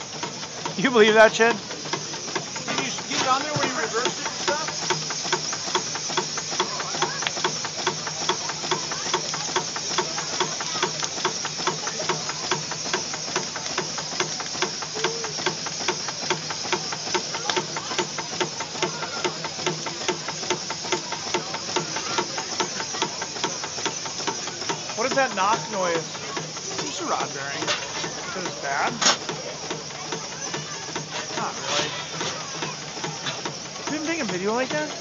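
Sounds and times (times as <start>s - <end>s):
engine knocking: 0.0s - 35.0s
steam hissing: 0.0s - 35.0s.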